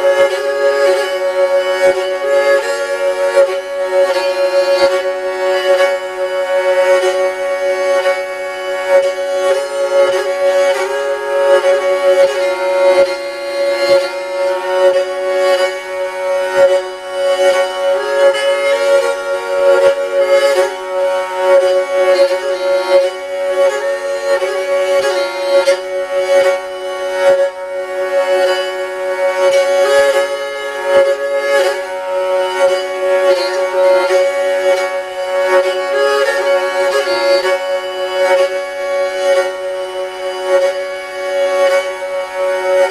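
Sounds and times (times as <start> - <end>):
bowed lyre playing: 0.0 - 42.9.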